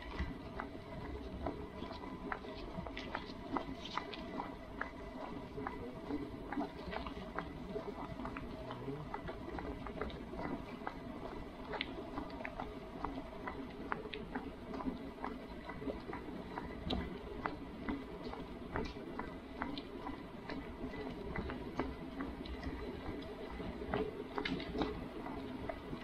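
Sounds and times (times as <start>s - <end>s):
low background murmur: 0.0s - 26.0s.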